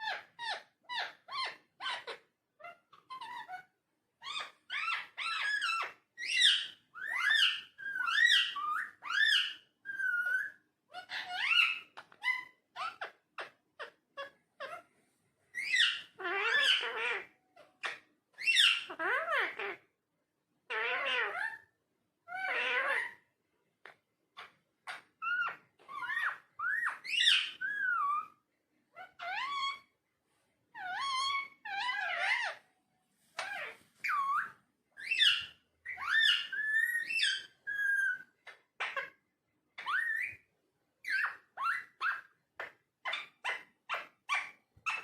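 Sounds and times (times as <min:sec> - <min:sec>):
parakeet vocalizing: 0:00.0 - 0:14.9, 0:15.5 - 0:19.9, 0:20.7 - 0:30.0, 0:30.7 - 0:32.7, 0:33.4 - 0:39.2, 0:39.8 - 0:45.0.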